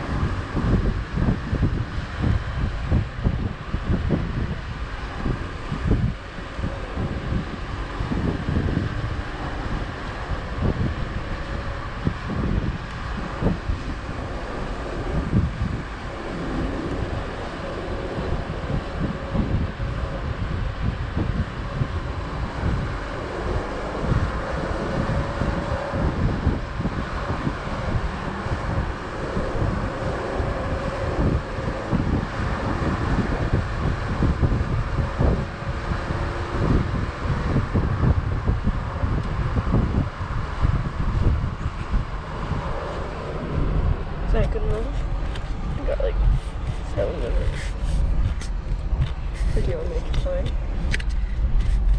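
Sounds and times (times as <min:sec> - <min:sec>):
vehicle and road noise: 0:00.0 - 0:51.9
wind buffeting microphone: 0:00.0 - 0:51.9.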